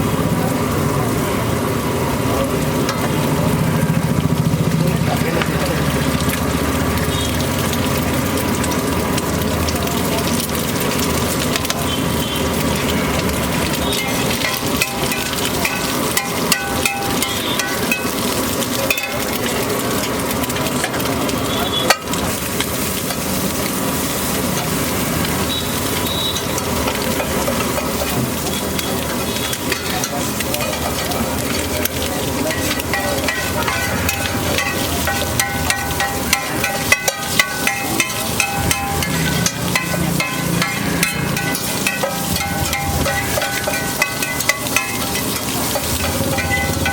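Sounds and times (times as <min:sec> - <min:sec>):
eggs sizzling in a pan: 0:00.0 - 0:46.9.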